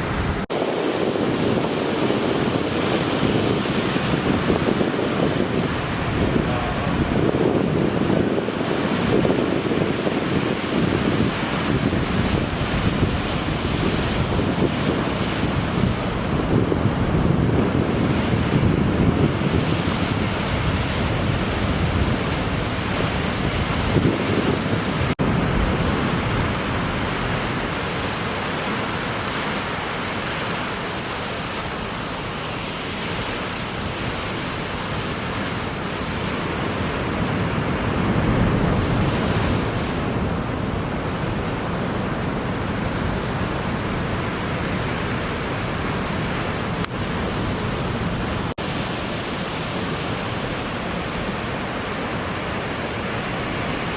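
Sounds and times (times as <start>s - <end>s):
wind buffeting microphone: 0.0s - 29.7s, 33.5s - 53.9s
ocean surf breaking: 0.0s - 53.9s.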